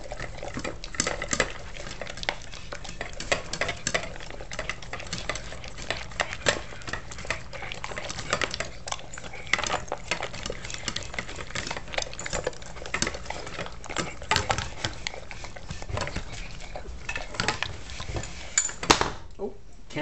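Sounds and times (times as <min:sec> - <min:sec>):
kibble clattering on steel bowl: 0:00.0 - 0:18.8
dog chewing and lapping: 0:00.0 - 0:18.9.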